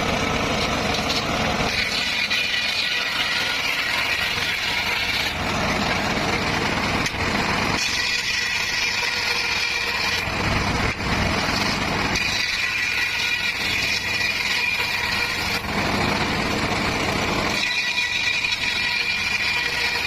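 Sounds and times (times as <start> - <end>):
circular saw cutting bamboo: 0.0 - 20.0.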